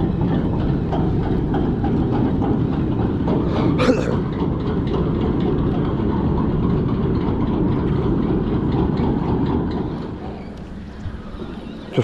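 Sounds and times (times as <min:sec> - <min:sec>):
ferry engine low rumble: 0:00.0 - 0:12.0.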